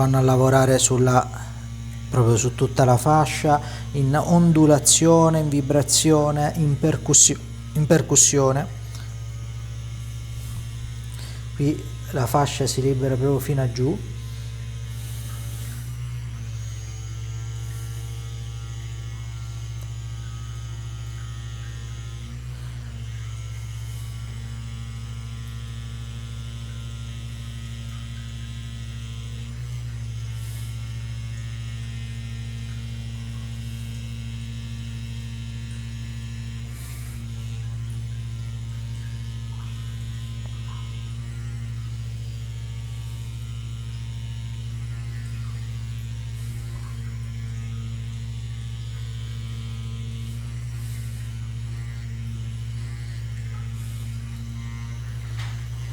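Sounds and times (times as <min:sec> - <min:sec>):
electric massager humming: 0:00.0 - 0:55.9.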